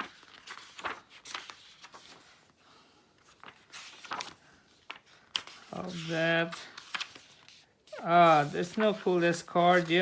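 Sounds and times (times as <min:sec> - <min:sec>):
paper pages rustling: 0:00.0 - 0:02.6, 0:03.2 - 0:10.0.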